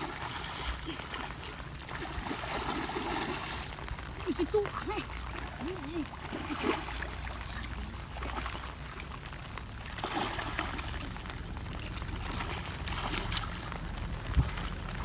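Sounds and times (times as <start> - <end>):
light water splashes: 0.0 - 15.0
water trickling and sloshing: 0.0 - 15.0.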